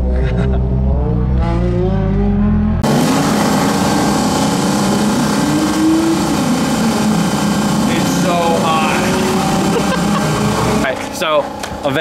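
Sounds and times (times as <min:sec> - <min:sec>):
steady low tones: 0:00.0 - 0:12.0
car engine revving hard: 0:00.4 - 0:11.3.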